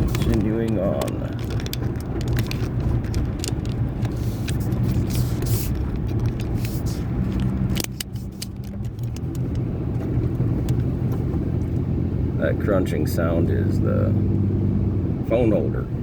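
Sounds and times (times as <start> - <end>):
car engine hum: 0.0 - 16.0
road rumble: 0.0 - 16.0.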